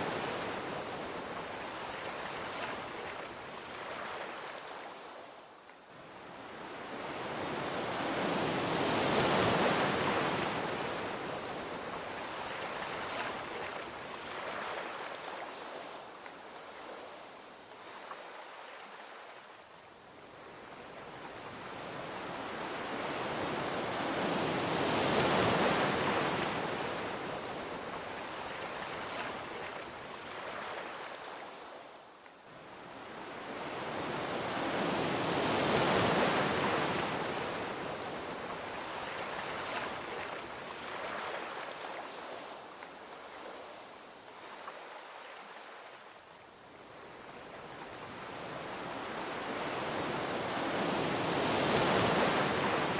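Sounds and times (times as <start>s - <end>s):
ocean waves washing onto beach: 0.0s - 52.9s.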